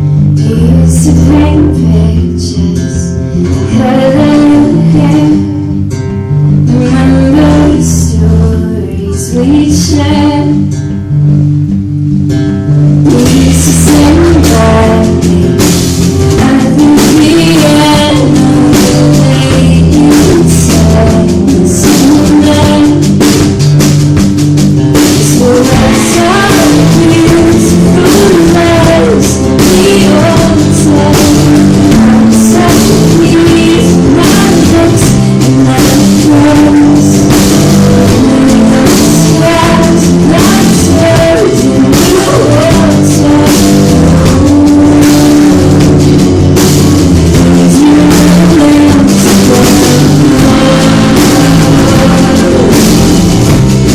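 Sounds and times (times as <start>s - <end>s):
live band playing: 0.0s - 53.9s.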